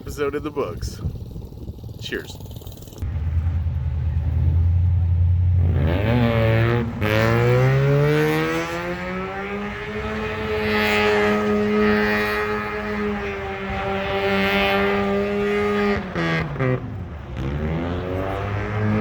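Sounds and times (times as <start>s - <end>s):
car engine accelerating hard: 3.0s - 19.0s.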